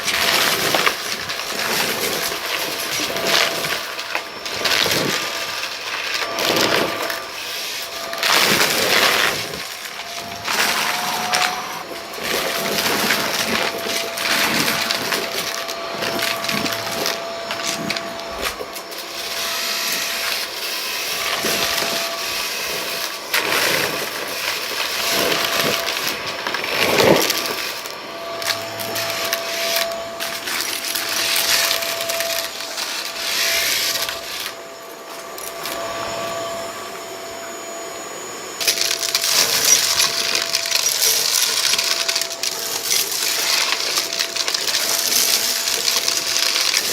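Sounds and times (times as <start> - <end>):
debris crackling and rattling: 0.0 - 34.6, 38.6 - 46.9
vacuum cleaner running: 0.0 - 46.9.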